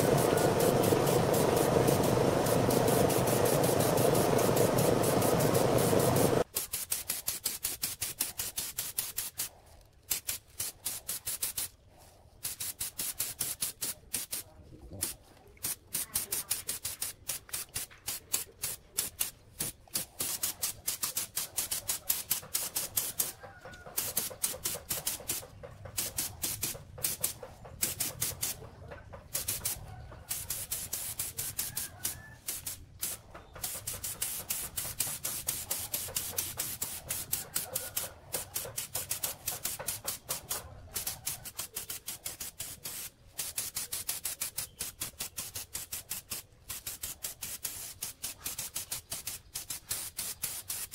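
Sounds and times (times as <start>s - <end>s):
paint spray gun hissing: 0.0s - 11.8s, 12.4s - 28.7s, 29.3s - 50.9s.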